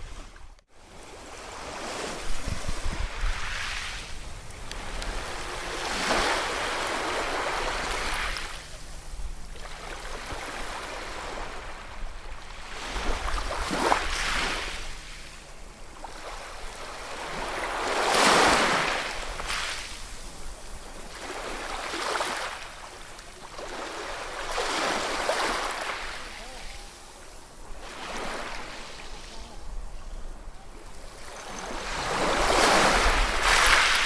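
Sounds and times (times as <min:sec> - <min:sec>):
ocean waves breaking: 0:00.0 - 0:15.2, 0:16.0 - 0:34.0.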